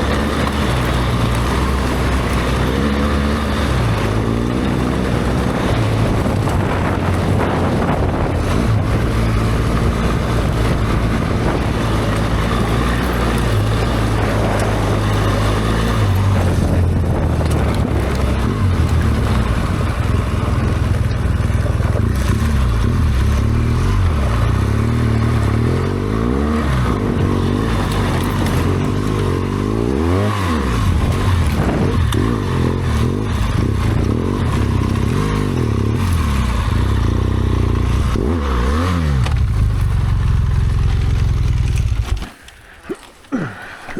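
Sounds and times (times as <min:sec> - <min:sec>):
motorcycle engine running: 0:00.0 - 0:42.8.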